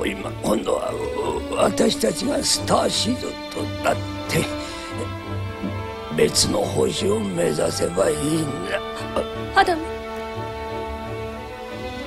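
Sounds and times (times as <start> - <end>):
film score music with held notes: 0.0 - 12.0.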